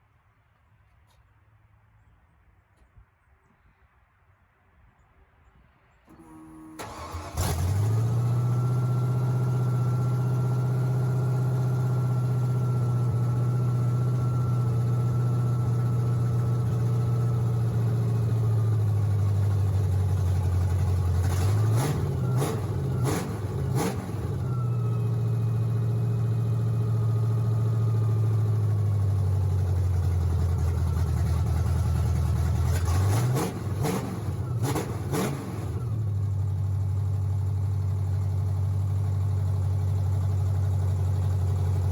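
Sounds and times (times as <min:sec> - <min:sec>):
engine idling and revving: 0:06.1 - 0:41.9.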